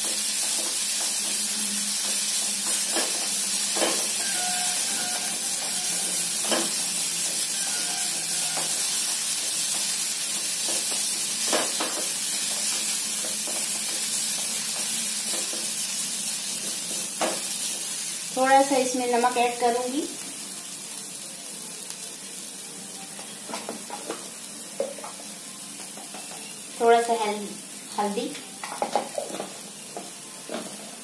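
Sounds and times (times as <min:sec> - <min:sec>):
peas sizzling in hot oil: 0:00.0 - 0:31.0.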